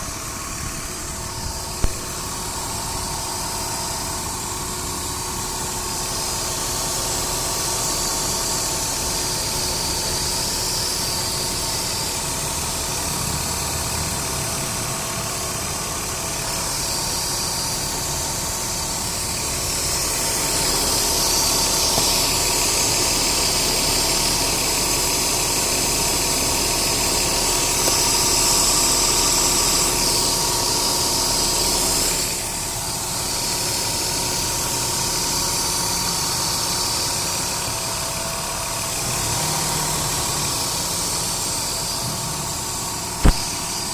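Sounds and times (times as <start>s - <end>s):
car engine idling unevenly: 0.0s - 43.9s.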